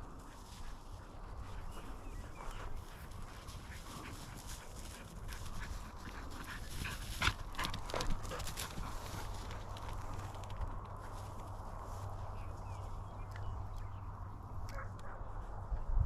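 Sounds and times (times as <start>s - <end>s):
dog rustling through dry grass: 0.0s - 14.4s.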